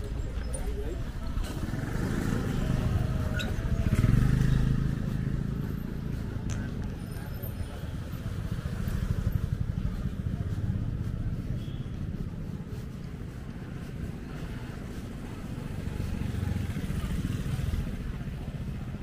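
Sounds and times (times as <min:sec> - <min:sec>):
low street rumble: 0:00.0 - 0:19.0
motorcycle engine passing: 0:01.3 - 0:19.0.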